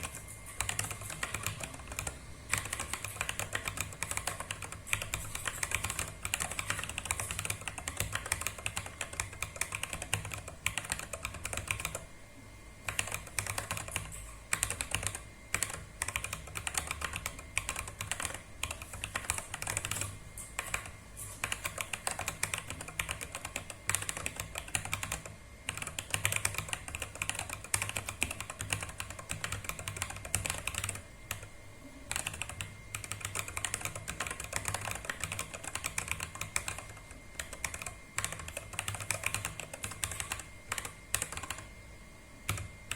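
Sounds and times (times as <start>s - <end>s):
mechanical keyboard typing: 0.0s - 12.1s, 12.8s - 31.5s, 32.1s - 41.7s, 42.5s - 42.9s.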